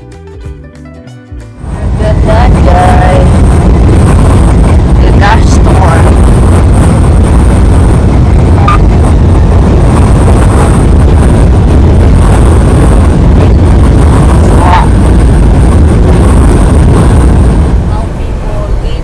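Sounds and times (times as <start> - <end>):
truck road rumble: 0.0 - 19.0
wind rushing: 1.5 - 19.0
wind buffeting microphone: 1.6 - 19.0.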